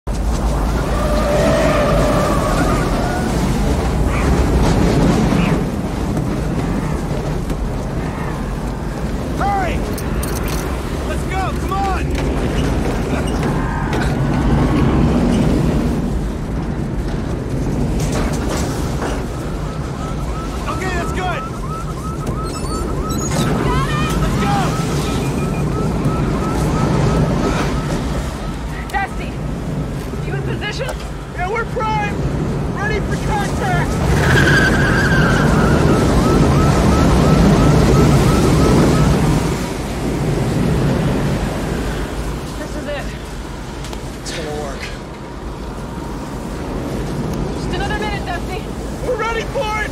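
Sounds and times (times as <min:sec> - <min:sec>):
low roar of tornado wind: 0:00.1 - 0:49.9.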